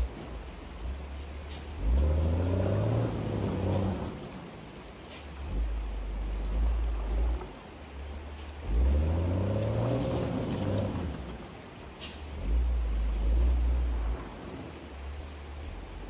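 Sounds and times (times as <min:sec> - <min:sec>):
diesel truck engine revving: 0:00.0 - 0:04.5, 0:05.1 - 0:11.4, 0:12.1 - 0:16.0
low irregular rumbling: 0:00.0 - 0:16.0.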